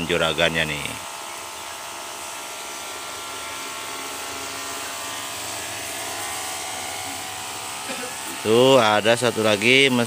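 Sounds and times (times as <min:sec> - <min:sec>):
small electric motor whirring: 0:00.0 - 0:10.0.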